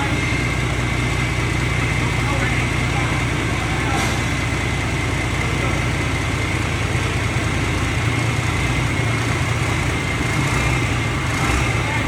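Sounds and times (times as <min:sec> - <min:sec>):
harvester engine running: 0:00.0 - 0:12.0.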